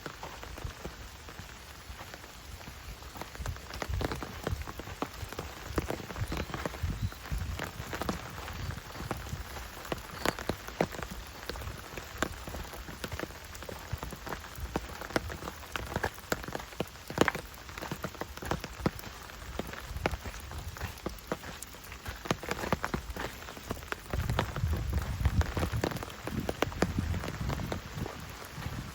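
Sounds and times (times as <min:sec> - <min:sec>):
rain patter: 0:00.0 - 0:28.9.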